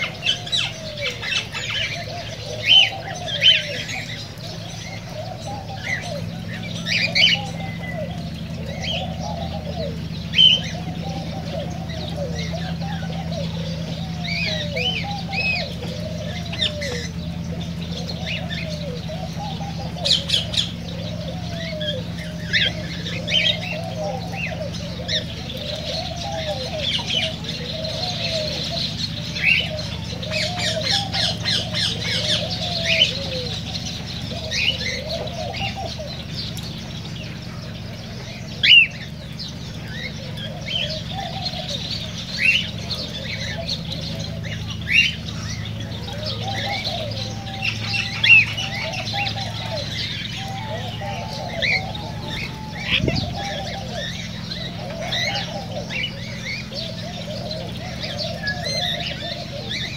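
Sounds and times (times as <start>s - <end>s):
cockatiels chirping and squawking: 0.0s - 59.9s
low warbling bird chatter: 0.0s - 59.9s
steady low hum: 0.0s - 59.9s.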